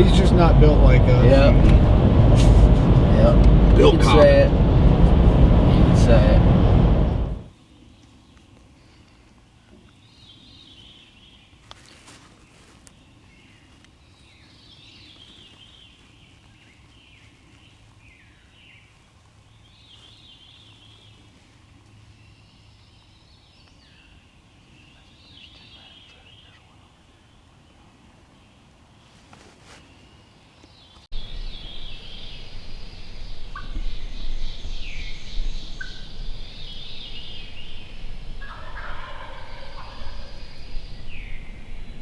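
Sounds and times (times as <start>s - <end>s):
wild birds singing: 7.1s - 42.0s.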